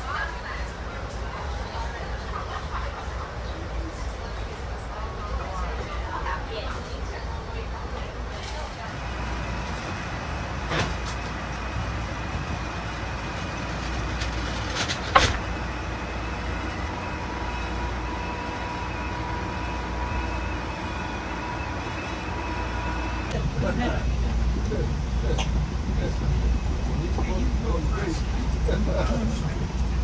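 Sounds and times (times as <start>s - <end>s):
train car rumble and hum: 0.0s - 30.0s.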